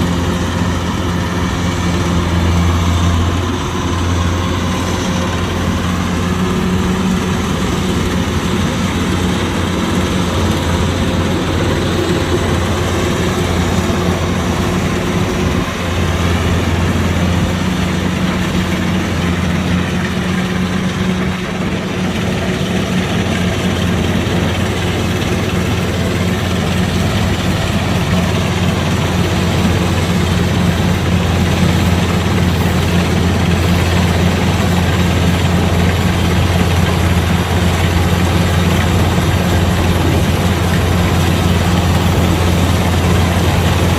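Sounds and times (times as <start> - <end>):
diesel engine humming: 0.0 - 43.9
working machinery noise: 0.0 - 43.9.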